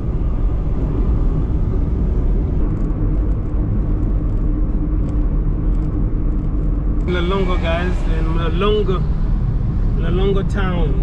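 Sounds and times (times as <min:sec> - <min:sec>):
car driving interior rumble: 0:00.0 - 0:11.0.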